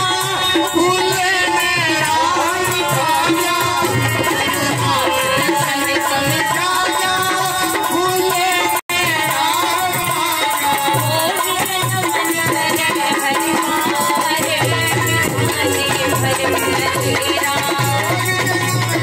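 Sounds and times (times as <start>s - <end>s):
hand drum beats: 0.0s - 19.0s
harmonium melody: 0.0s - 19.0s.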